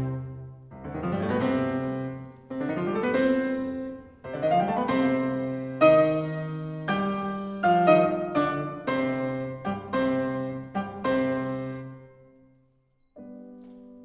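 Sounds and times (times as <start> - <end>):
grand piano playing: 0.0 - 14.0.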